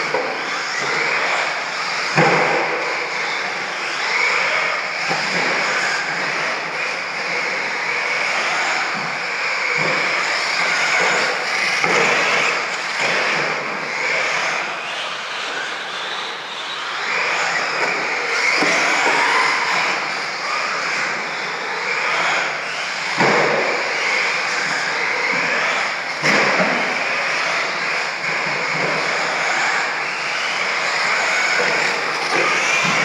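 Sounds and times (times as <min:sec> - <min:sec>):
toy truck motor whine: 0:00.0 - 0:33.0.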